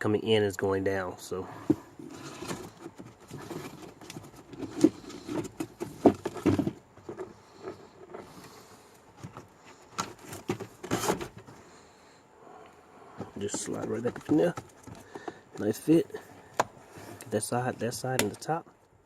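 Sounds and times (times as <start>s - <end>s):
filter rustling: 1.5s - 18.6s.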